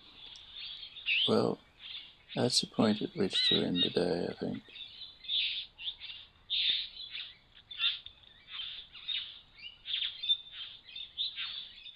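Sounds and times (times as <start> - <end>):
birds calling: 0.0 - 11.9.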